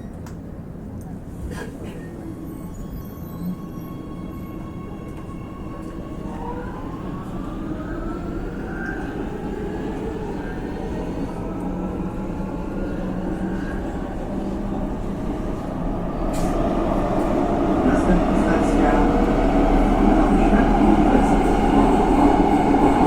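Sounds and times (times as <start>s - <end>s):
tram wheels rumbling on track: 0.4s - 23.0s.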